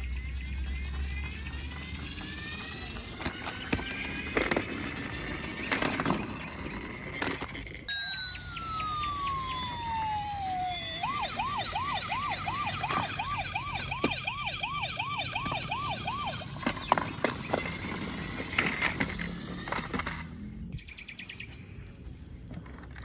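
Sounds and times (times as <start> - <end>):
toy police siren wailing: 0.2 - 20.2.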